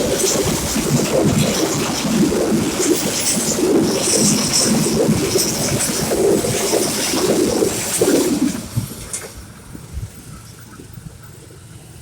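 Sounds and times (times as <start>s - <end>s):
train rumbling over crossing: 0.0s - 12.0s.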